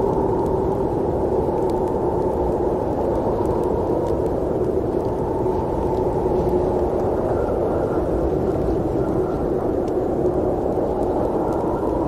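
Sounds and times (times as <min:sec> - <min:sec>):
faint ticks: 0:00.0 - 0:12.0
snowstorm wind rushing: 0:00.0 - 0:12.0.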